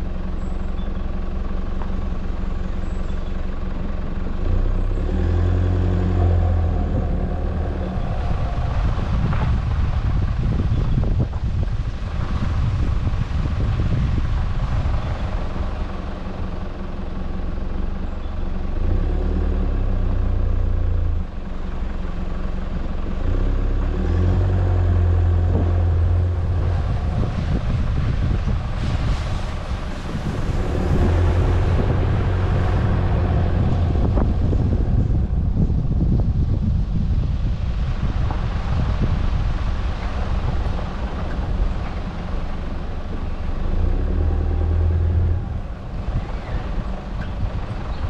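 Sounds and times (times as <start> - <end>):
vehicle engine running: 0.0 - 48.0
wind rumble on microphone: 0.0 - 48.0.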